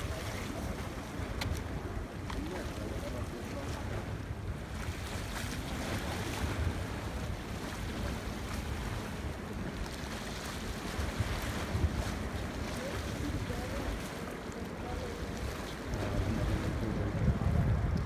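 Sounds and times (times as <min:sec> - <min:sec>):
sea water washing on rocks: 0:00.0 - 0:18.0
wind buffeting microphone: 0:00.0 - 0:18.0.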